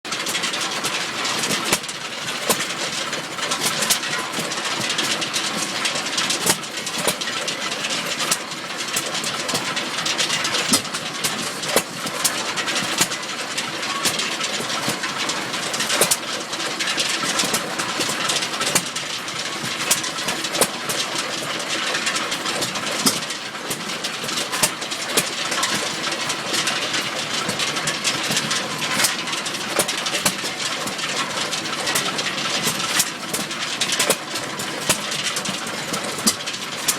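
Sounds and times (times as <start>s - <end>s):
engine firing with sharp pops: 0.1s - 36.9s
steady mechanical noise: 0.1s - 36.9s.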